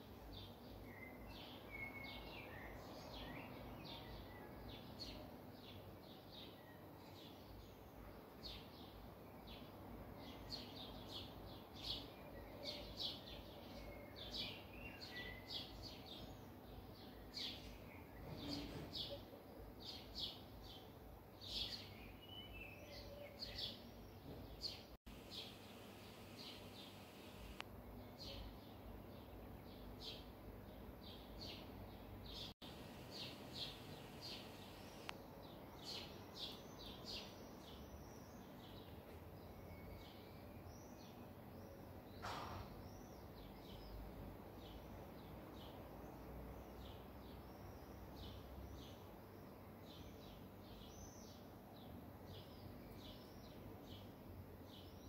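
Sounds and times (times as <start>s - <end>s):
low outdoor background noise: 0.0s - 55.0s
small birds chirping: 0.0s - 55.0s.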